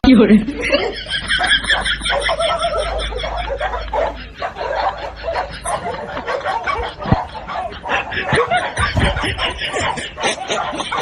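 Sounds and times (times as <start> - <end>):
person snickering: 0.5 - 11.0.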